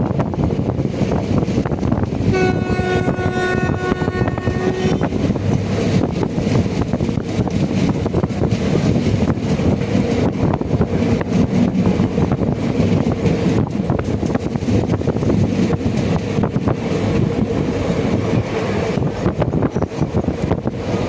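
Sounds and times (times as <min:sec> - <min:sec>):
train clicks and clatter: 0:00.0 - 0:21.0
train wheels rumbling on rails: 0:00.0 - 0:21.0
wind buffeting microphone: 0:00.0 - 0:21.0.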